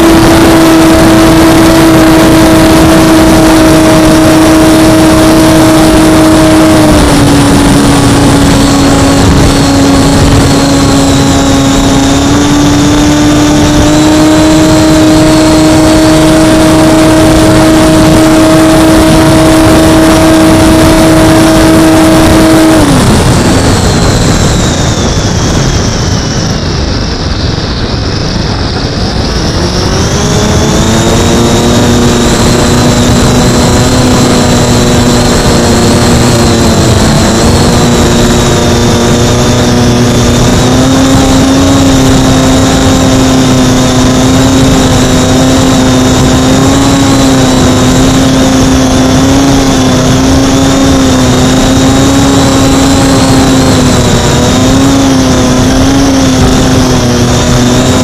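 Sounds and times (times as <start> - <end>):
electric motor and propeller hum: 0.0 - 58.0
wind rushing over microphone: 0.0 - 58.0.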